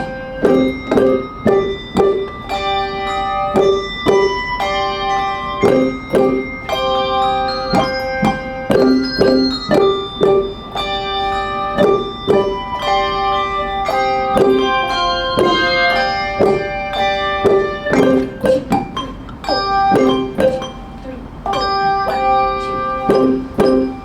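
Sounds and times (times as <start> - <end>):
handbell ensemble melody: 0.0 - 24.0.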